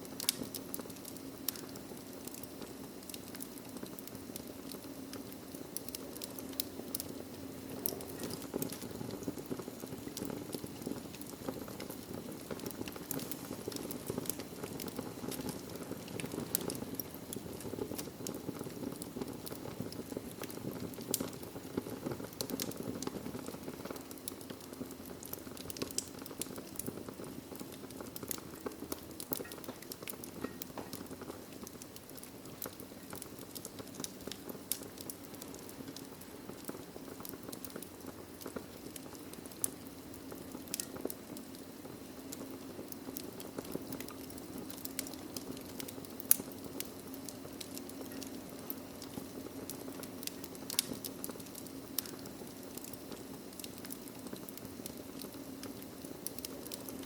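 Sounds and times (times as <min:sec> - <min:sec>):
fire pops and crackles: 0:00.0 - 0:57.0
flames rushing: 0:00.0 - 0:57.0.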